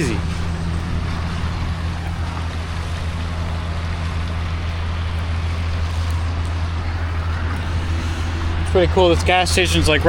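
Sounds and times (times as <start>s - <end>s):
heavy rain pouring: 0.0s - 10.0s
low hum: 0.0s - 10.0s.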